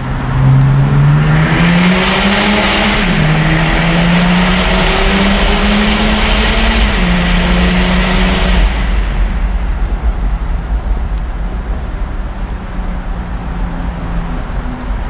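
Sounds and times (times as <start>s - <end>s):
diesel car accelerating in tunnel: 0.0s - 15.0s.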